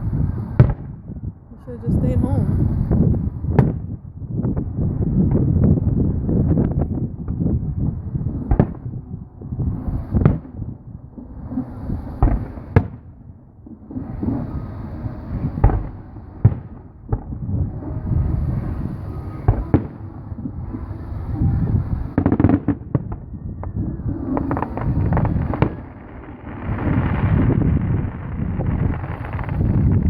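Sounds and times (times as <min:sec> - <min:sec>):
fireworks bangs: 0:00.0 - 0:30.0
low rumble: 0:00.0 - 0:30.0.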